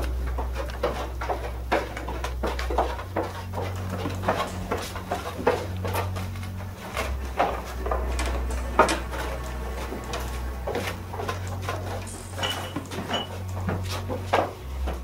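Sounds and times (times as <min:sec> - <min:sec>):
footsteps on wooden stairs: 0:00.0 - 0:15.0
low hum: 0:00.0 - 0:15.0.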